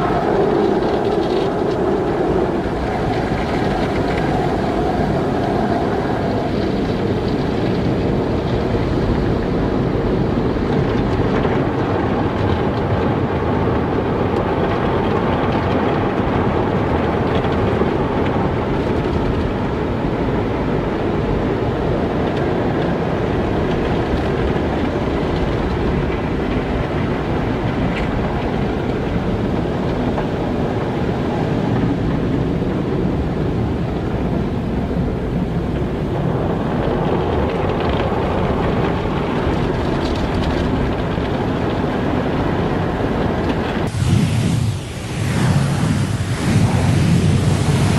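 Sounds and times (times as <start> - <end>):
car wash machinery and water: 0.0 - 47.9.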